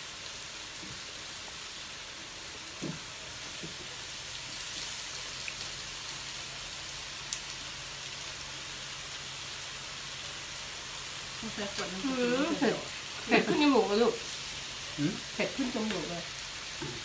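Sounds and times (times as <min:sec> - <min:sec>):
skewers sizzling on a grill pan: 0:00.0 - 0:17.0.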